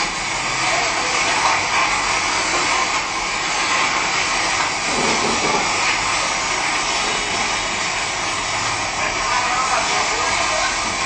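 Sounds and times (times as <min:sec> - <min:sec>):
roar and hiss of oil well blowout: 0:00.0 - 0:11.0.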